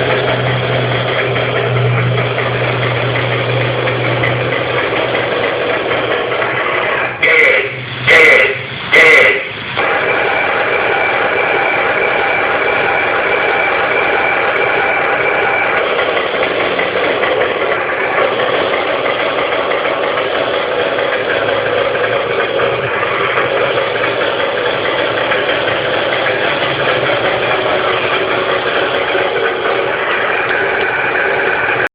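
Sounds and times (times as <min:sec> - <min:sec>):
toy bulldozer mechanical drone: 0:00.0 - 0:31.9.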